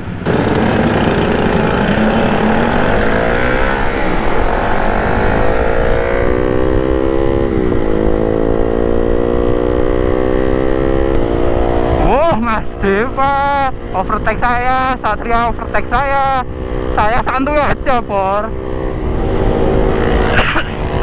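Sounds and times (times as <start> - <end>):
motorcycle engine accelerating: 0.2 - 21.0
wind rush on microphone: 3.7 - 21.0.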